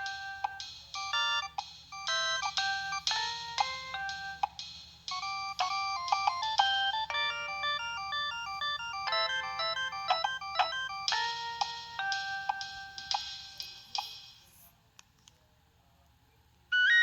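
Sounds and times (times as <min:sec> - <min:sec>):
mobile phone ringtone melody: 0:00.0 - 0:04.5, 0:05.1 - 0:14.1, 0:16.8 - 0:17.0.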